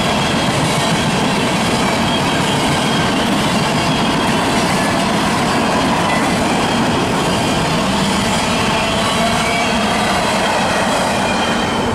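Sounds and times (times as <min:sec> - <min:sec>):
train wheels running on rails: 0:00.0 - 0:11.9.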